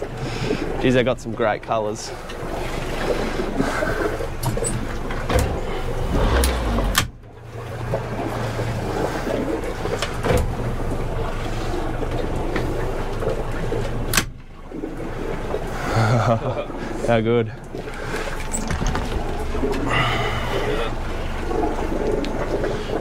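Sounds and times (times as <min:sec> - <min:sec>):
wind and water around boat: 0:00.0 - 0:23.0
low hum: 0:02.1 - 0:23.0.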